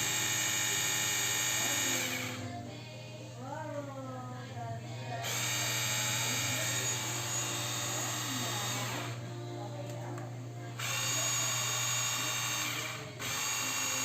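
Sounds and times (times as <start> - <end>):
pressure washer motor whine: 0.0 - 2.5, 5.0 - 14.0.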